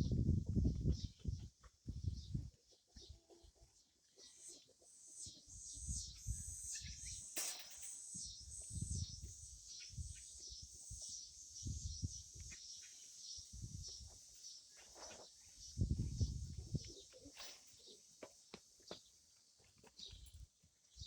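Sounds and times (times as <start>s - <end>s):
birds chirping: 4.0s - 21.0s.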